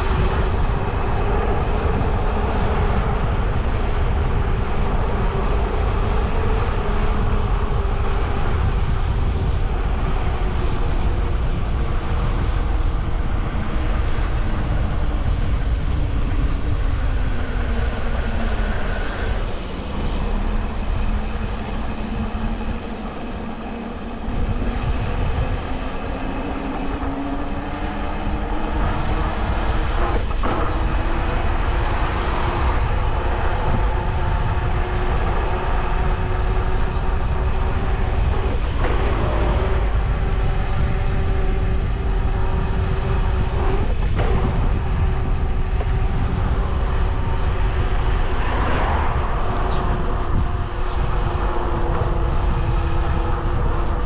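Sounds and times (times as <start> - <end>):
electric bike motor whining: 0.0 - 54.0.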